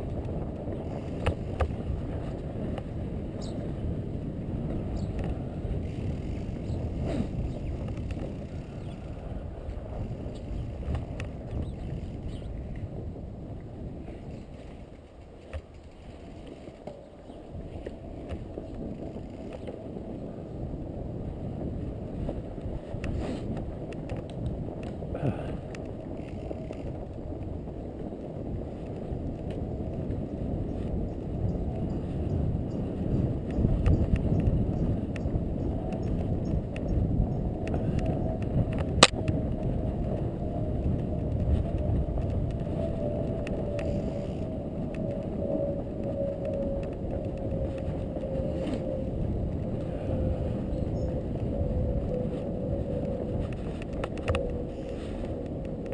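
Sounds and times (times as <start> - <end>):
bike tyres rolling: 0.0 - 55.9
wind on microphone: 0.0 - 55.9.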